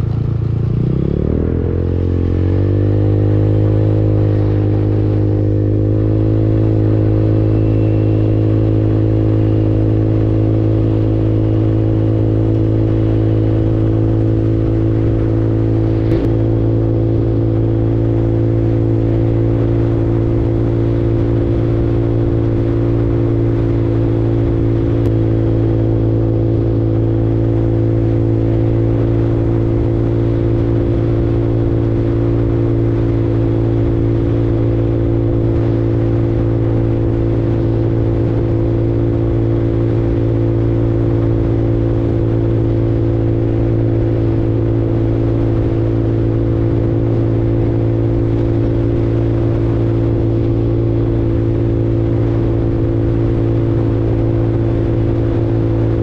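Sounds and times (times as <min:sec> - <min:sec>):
scooter engine running: 0:00.0 - 0:56.0.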